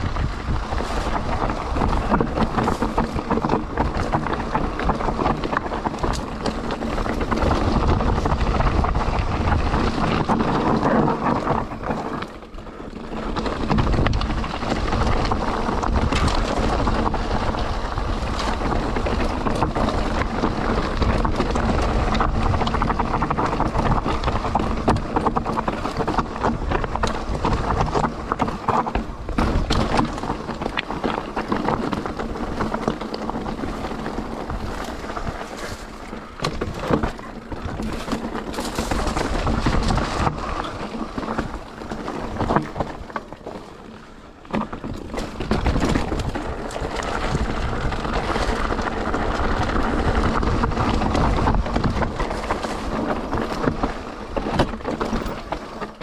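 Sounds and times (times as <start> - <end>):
mountain bike rattling over stones: 0.0 - 56.0
steady rush of riding noise: 0.0 - 56.0.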